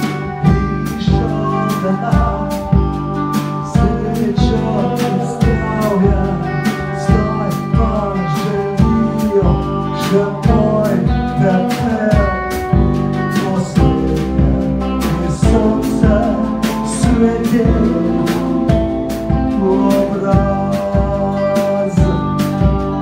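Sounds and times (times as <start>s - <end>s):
acoustic guitar: 0.0s - 23.0s
bass guitar: 0.0s - 23.0s
electric guitar chords: 0.0s - 23.0s.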